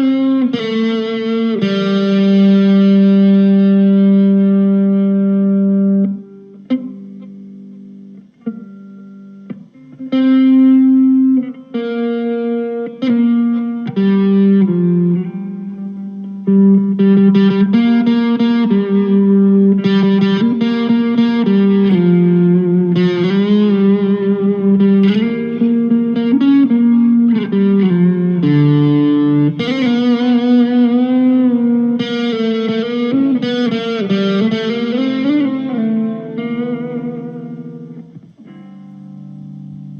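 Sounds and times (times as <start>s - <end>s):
electric guitar lead line: 0.0s - 39.9s.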